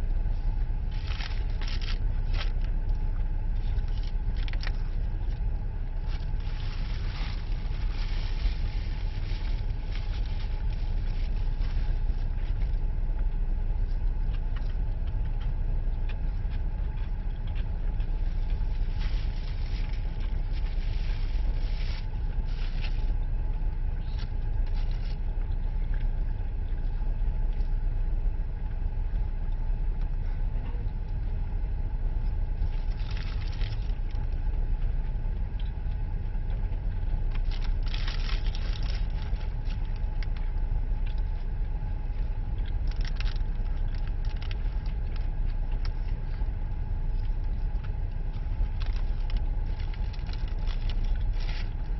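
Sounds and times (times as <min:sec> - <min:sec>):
car cabin rumble: 0:00.0 - 0:51.9
faint steady hum: 0:00.0 - 0:51.9.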